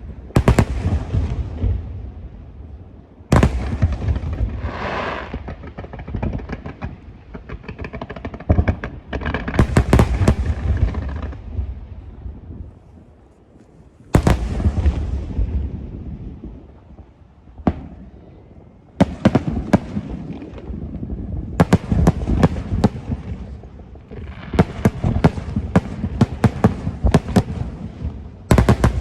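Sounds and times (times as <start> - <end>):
fireworks bangs: 0.0 - 2.1, 3.3 - 12.4, 14.1 - 16.4, 19.0 - 29.0
fireworks crackling: 0.0 - 2.4, 3.3 - 29.0.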